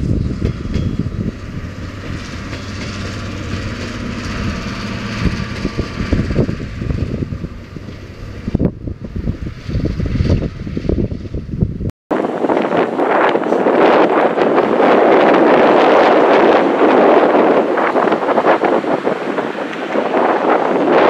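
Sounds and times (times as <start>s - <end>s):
train coaches rumbling on rails: 0.0s - 21.0s
wind buffeting microphone: 0.0s - 21.0s.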